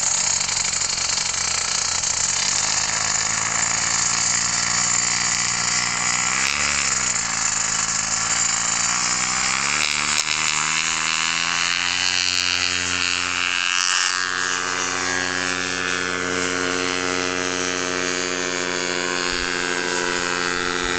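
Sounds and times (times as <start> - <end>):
paramotor engine and propeller: 0.0 - 20.9.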